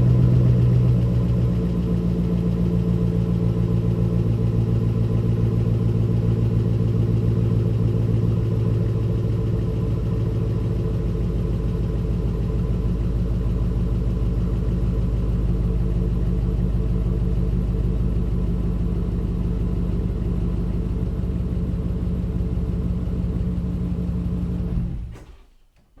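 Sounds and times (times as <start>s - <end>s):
car engine idling: 0.0s - 25.4s.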